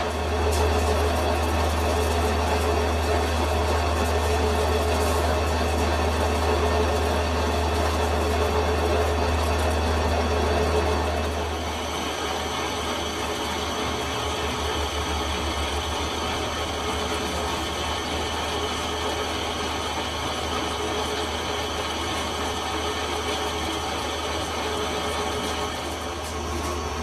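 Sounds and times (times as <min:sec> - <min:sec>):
metal lathe humming: 0:00.0 - 0:27.0.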